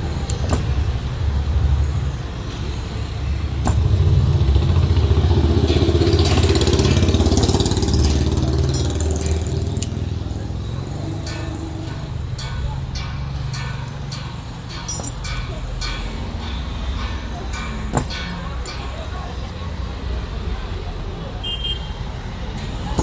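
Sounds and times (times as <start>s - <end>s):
motor vehicle engine running: 0.0s - 21.1s.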